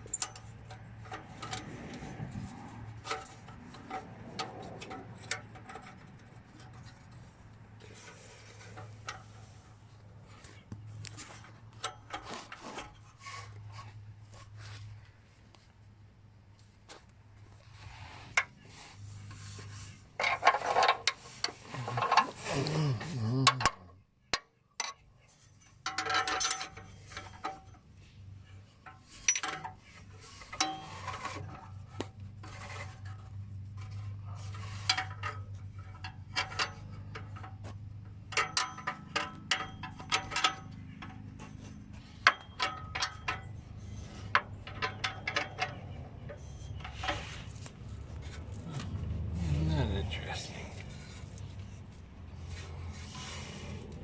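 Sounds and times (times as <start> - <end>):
metal tools clinking and scraping: 0.0 - 14.9, 18.2 - 23.8, 24.8 - 54.0.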